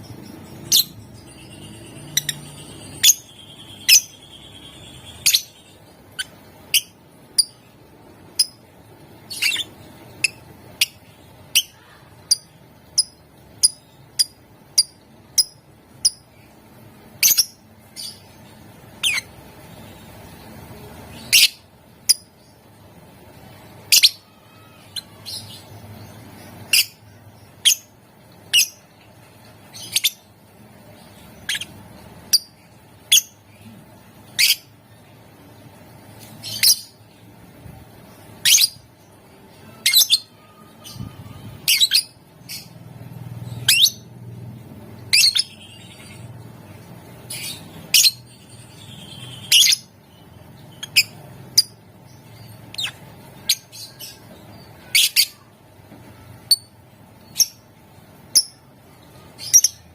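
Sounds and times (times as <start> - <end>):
bird chirping: 0.0 - 22.7, 23.5 - 34.7, 36.2 - 37.2, 38.0 - 44.3, 44.9 - 55.5, 56.2 - 59.9.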